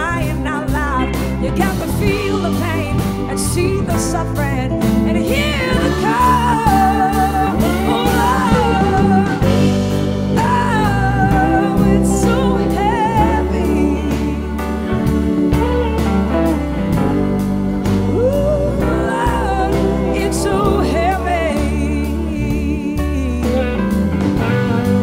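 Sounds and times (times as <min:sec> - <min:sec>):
woman singing: 0:00.0 - 0:15.2, 0:17.8 - 0:24.6
bass: 0:00.0 - 0:25.0
electric guitars: 0:00.0 - 0:25.0
keyboard: 0:00.0 - 0:25.0
steady drum beat: 0:00.0 - 0:25.0.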